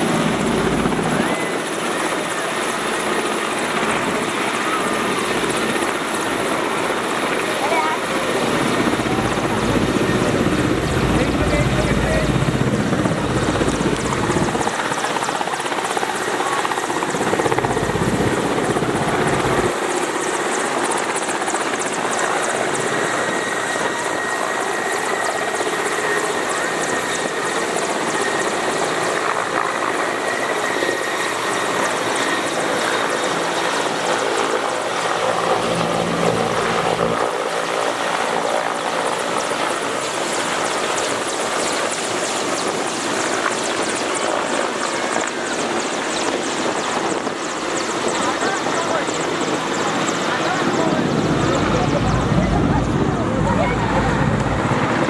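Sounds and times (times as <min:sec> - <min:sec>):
helicopter rotors and engines: 0:00.0 - 0:55.0.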